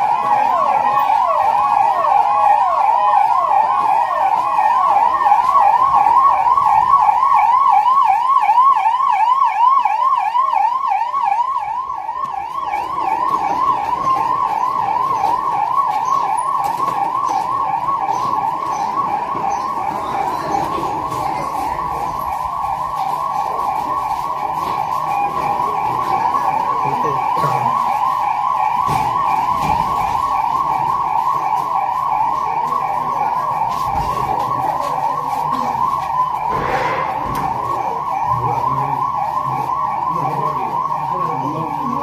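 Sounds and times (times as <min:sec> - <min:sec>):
electronic siren yelping: 0:00.0 - 0:42.0.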